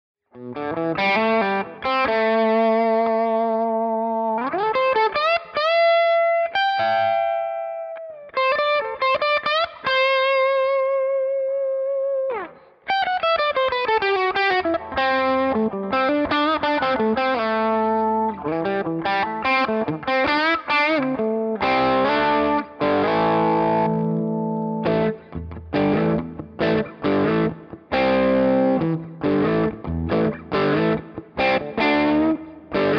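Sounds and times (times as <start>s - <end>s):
overdriven electric guitar lead: 0.4s - 32.9s.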